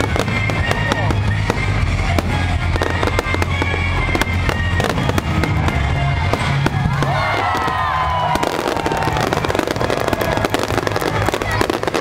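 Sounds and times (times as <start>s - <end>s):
firework bursts and crackling: 0.0s - 12.0s
music playing: 0.0s - 12.0s.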